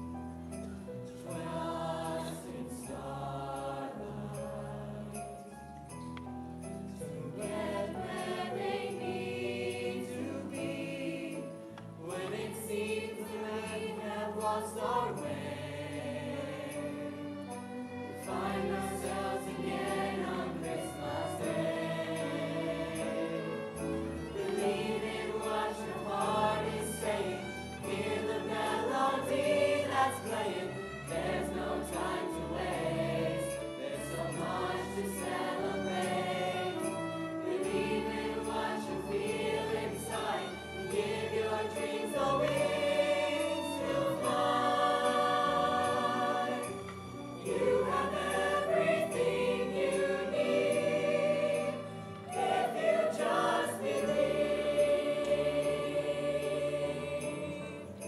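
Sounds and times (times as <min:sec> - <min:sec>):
school choir singing: 0:01.2 - 0:05.2, 0:07.2 - 0:58.0
instrumental accompaniment: 0:05.2 - 0:58.0.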